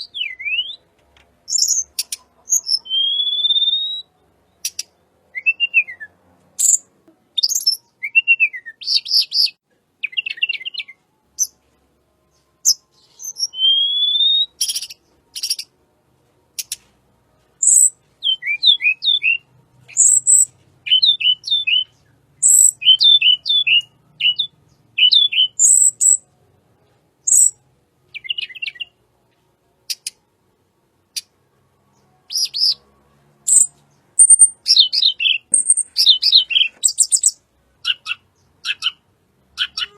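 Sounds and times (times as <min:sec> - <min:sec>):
songbird singing: 0:00.0 - 0:15.8, 0:17.6 - 0:30.3, 0:31.0 - 0:39.9.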